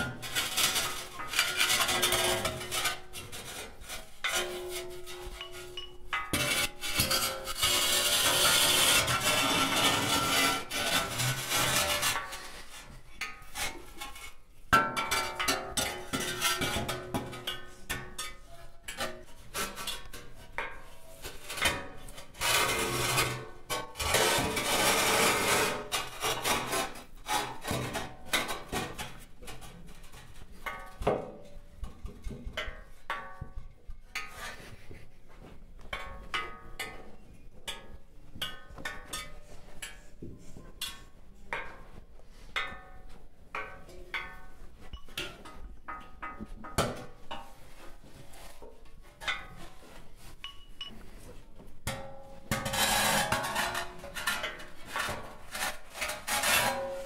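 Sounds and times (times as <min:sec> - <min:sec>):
scraping and rasping: 0:00.0 - 0:57.0.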